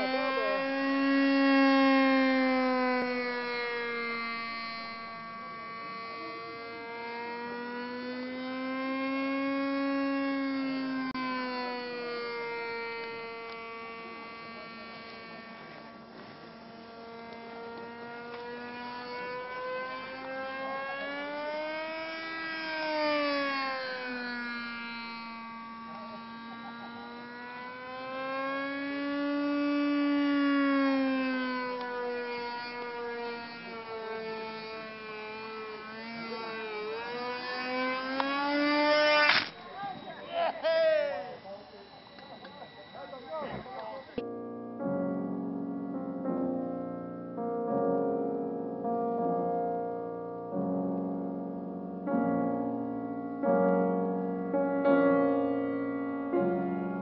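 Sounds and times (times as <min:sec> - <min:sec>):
model plane engine droning: 0:00.0 - 0:57.0.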